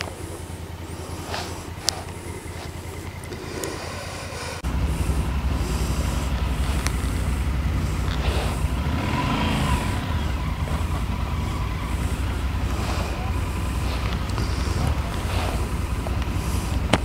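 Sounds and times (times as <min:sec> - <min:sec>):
motorcycle engine low rumble: 0:00.0 - 0:17.0.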